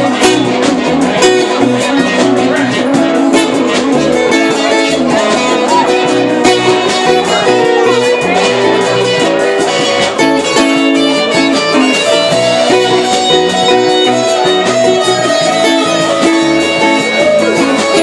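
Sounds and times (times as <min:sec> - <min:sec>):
drum kit steady beat: 0:00.0 - 0:18.0
sustained guitar notes: 0:00.0 - 0:18.0.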